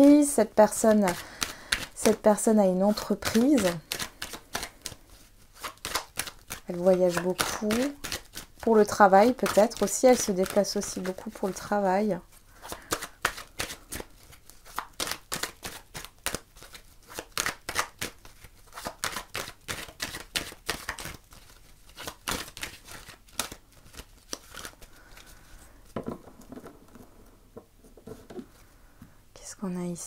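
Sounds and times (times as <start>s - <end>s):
cards being shuffled: 0.0s - 28.7s.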